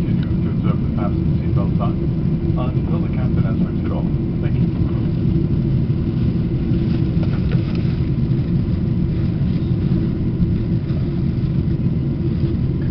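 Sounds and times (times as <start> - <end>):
aircraft cabin rumble: 0.0 - 12.9.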